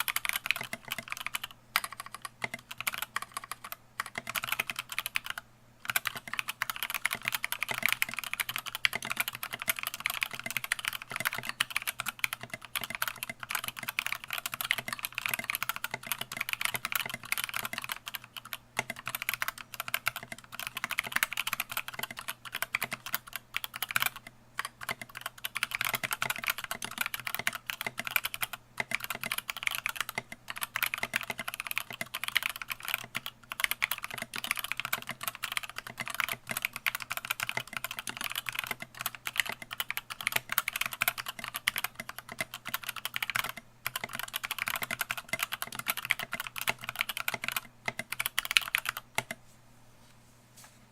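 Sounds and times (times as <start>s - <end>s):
mechanical keyboard typing: 0.0s - 49.4s.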